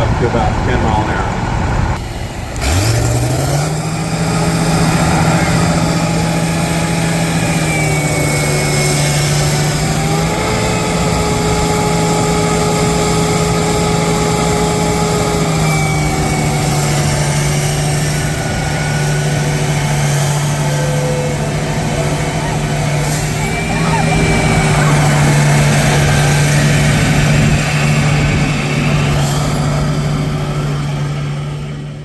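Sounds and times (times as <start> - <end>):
heavy engine running: 0.0 - 32.0.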